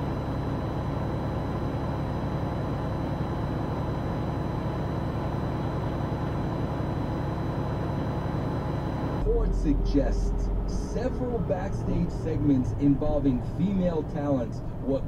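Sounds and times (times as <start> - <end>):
car idling: 0.0 - 15.0.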